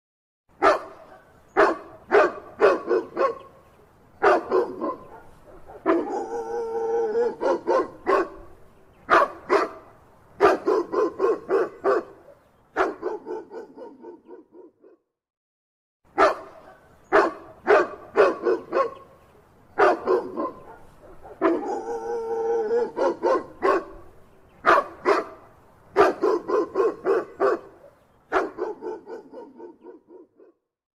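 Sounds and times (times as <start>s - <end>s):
dog barking: 0.6s - 3.6s, 4.2s - 15.0s, 16.2s - 19.1s, 19.8s - 30.6s.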